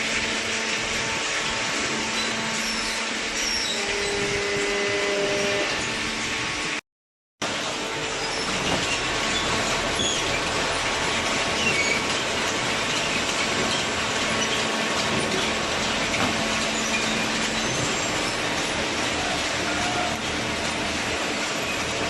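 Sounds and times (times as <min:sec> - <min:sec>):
baler mechanical noise: 0:00.0 - 0:06.8, 0:07.4 - 0:22.0.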